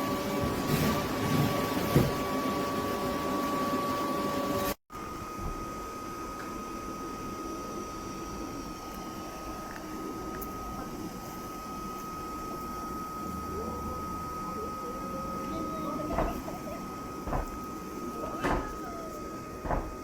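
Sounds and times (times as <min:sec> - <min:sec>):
electric blower fan whirring: 0:00.0 - 0:20.0.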